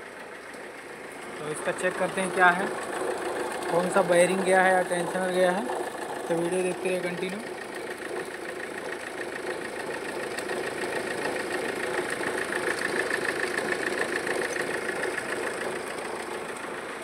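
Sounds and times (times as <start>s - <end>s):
car engine idling with rhythmic growl: 0.0s - 17.0s.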